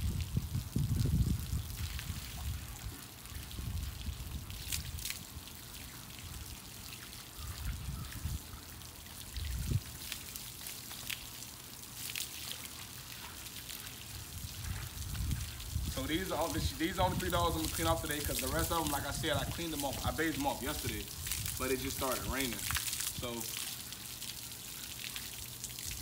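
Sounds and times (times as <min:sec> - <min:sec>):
hose water splashing on dog: 0:00.0 - 0:26.0.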